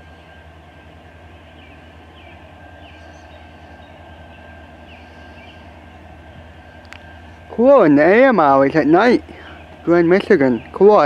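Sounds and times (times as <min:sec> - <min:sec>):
diesel locomotives rumbling: 0:00.0 - 0:11.0.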